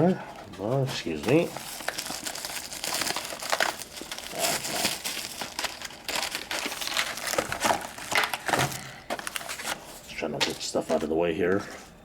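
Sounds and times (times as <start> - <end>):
plastic packaging crinkling: 0.6 - 11.1.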